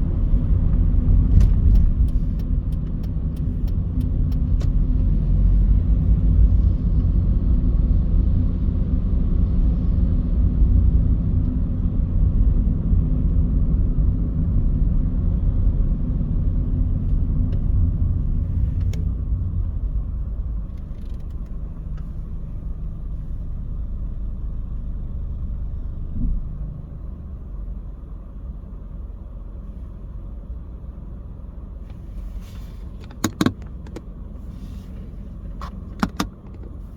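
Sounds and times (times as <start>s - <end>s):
car road and engine rumble: 0.0s - 36.9s.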